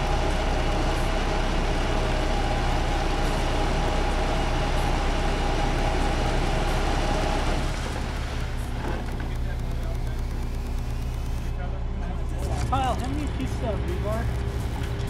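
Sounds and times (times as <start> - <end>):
diesel engine rumbling with whine: 0.0 - 15.0.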